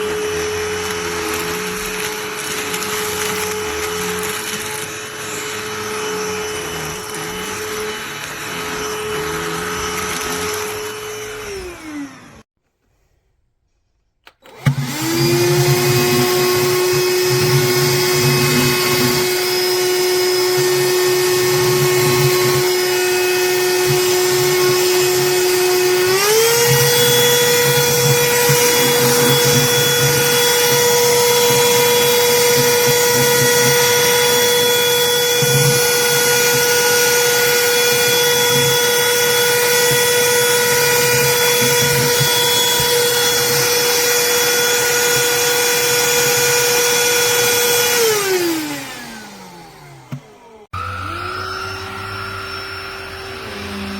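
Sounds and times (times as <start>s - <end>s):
handheld vacuum motor whine: 0.0s - 12.5s, 14.3s - 53.9s.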